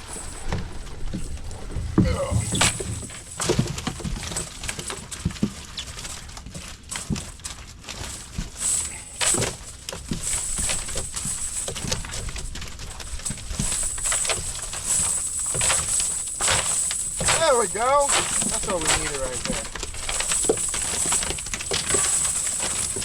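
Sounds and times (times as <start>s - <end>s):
knocks and pattering on boat deck: 0.0s - 23.0s.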